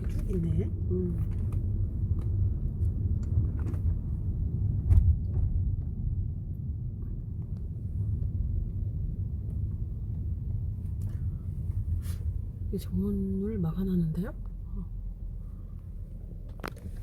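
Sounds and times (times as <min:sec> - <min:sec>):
car driving rumble inside cabin: 0:00.0 - 0:17.0.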